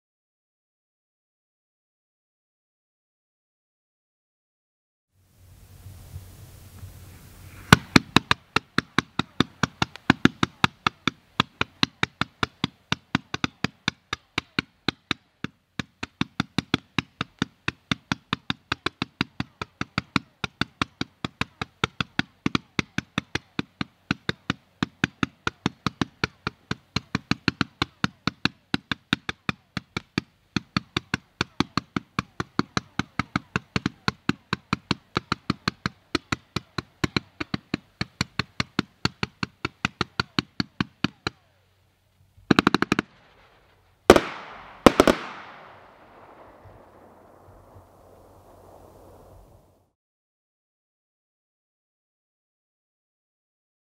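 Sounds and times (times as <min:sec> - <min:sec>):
fireworks bursts: 0:05.4 - 0:41.8, 0:42.4 - 0:49.9
fireworks popping: 0:05.7 - 0:41.5, 0:42.4 - 0:49.9.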